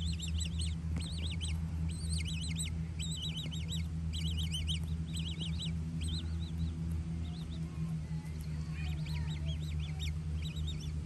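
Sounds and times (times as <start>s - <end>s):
steady low hum: 0.0s - 11.0s
young birds peeping: 0.0s - 11.0s.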